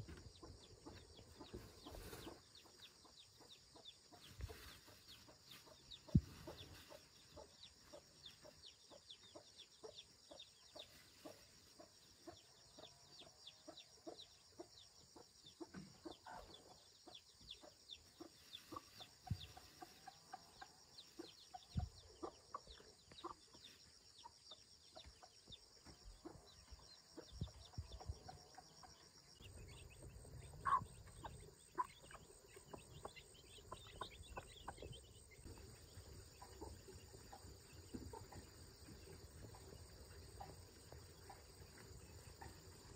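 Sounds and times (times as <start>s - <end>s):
chickens clucking softly: 0.0s - 42.9s.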